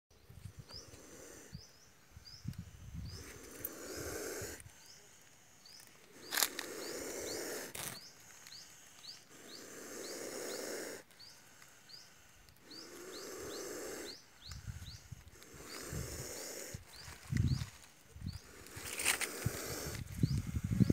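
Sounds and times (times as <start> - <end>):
snake hissing: 0.5 - 20.9.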